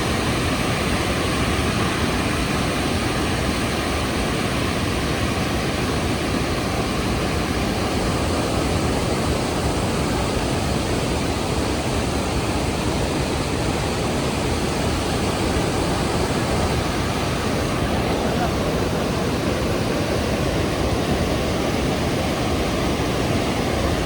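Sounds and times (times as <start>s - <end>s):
waterfall crashing: 0.0s - 24.0s.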